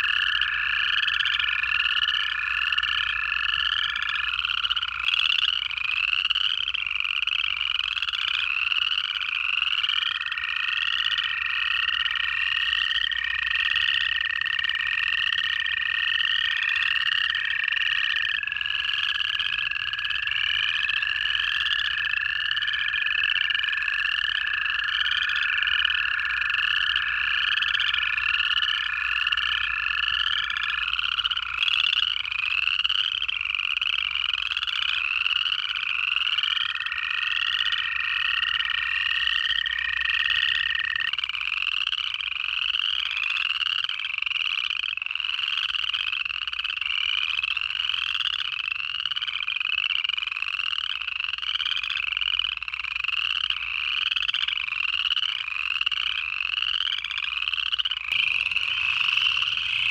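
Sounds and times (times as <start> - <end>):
frogs giving rising trills: 0.0 - 59.9
toads giving long trills: 0.0 - 59.9.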